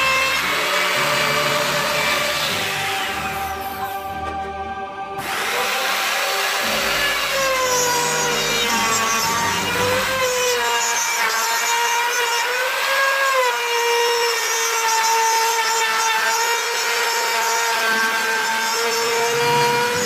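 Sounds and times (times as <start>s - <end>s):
circular saw cutting wood: 0.0s - 20.0s.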